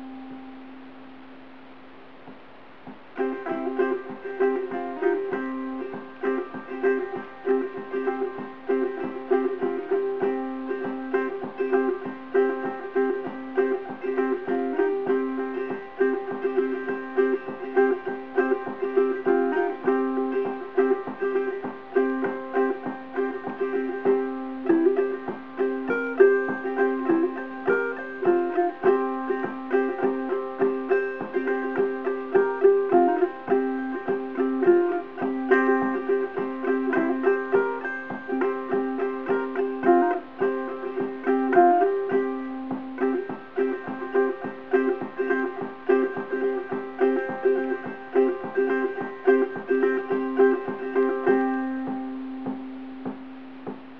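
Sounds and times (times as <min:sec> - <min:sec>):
ukulele picking a bluegrass tune: 0:00.0 - 0:53.9.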